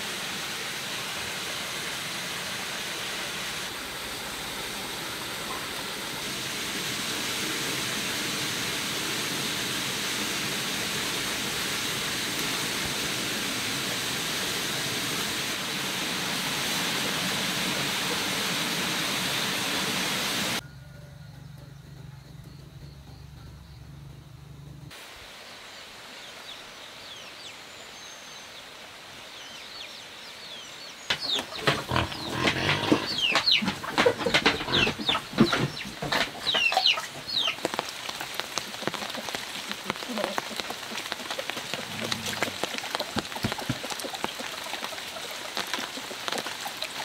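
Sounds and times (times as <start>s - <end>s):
rain falling: 0.0s - 20.6s, 28.6s - 47.0s.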